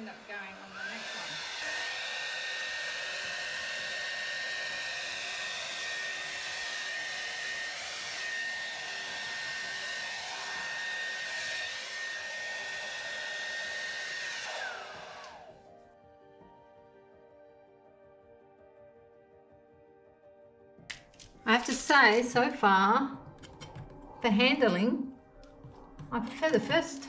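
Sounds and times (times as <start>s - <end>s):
hair dryer running: 0.0s - 15.8s, 20.9s - 27.0s.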